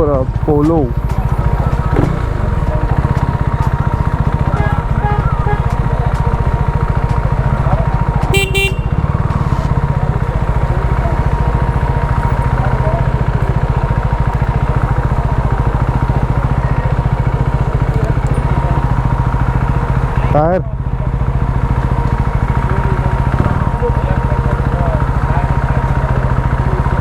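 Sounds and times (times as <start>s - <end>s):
motorcycle engine running: 0.0s - 27.0s
vehicle horn: 1.2s - 20.4s, 21.1s - 27.0s.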